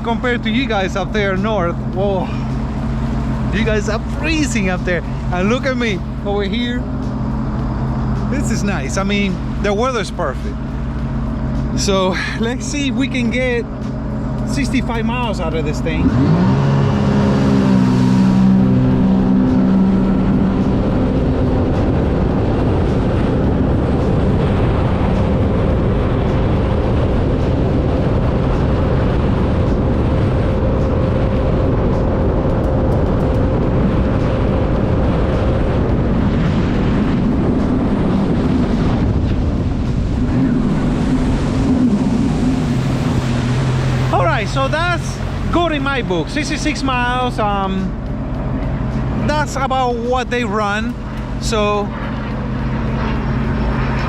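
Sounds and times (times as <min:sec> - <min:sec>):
watercraft engine at full throttle: 0:00.0 - 0:54.0
wind and water rushing: 0:00.0 - 0:54.0.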